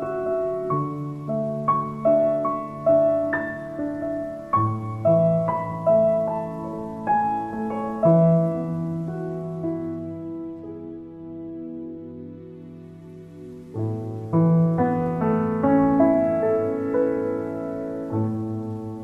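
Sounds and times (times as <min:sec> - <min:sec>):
slow solo piano music: 0:00.0 - 0:19.0.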